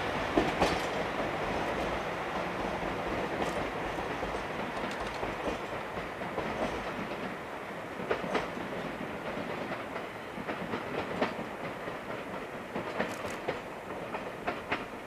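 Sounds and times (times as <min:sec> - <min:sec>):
train running rumble: 0:00.0 - 0:15.0
train wheels clacking over rail joints: 0:00.0 - 0:15.0.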